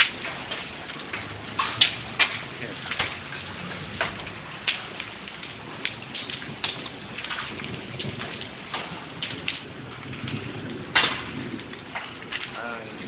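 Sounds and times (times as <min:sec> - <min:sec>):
hail falling: 0:00.0 - 0:13.0
hailstones clacking on hard surfaces: 0:00.0 - 0:13.0.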